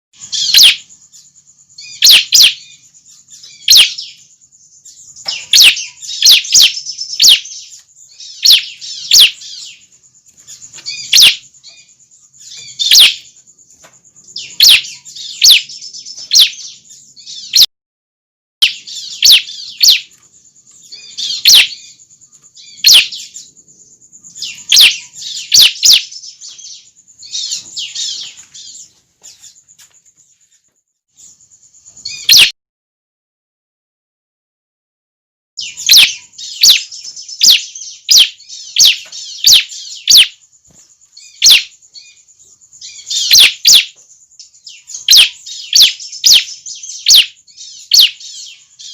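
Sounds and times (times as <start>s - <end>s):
birds chirping sharply: 0.2s - 17.7s, 18.6s - 32.6s, 35.6s - 48.9s.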